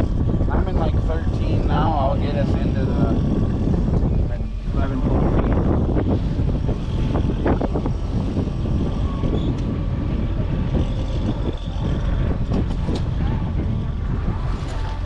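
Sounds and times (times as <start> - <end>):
boat motor drone: 0.0 - 15.0
wind buffeting on microphone: 0.0 - 15.0.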